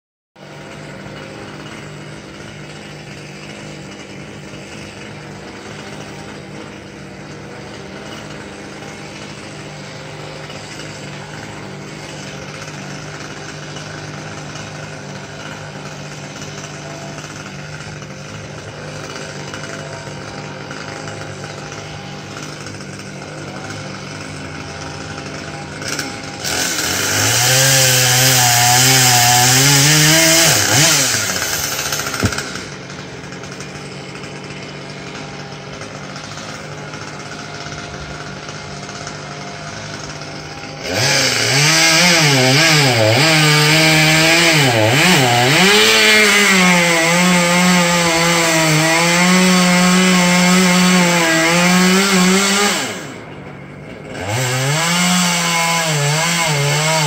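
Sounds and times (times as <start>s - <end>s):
chainsaw cutting wood: 0.4s - 57.0s.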